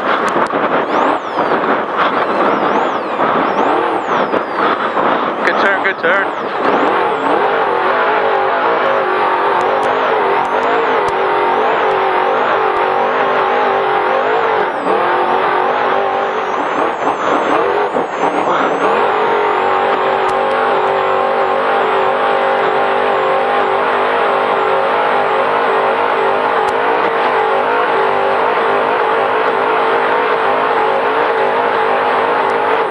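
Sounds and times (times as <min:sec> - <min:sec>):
truck engine revving hard: 0:00.0 - 0:32.9.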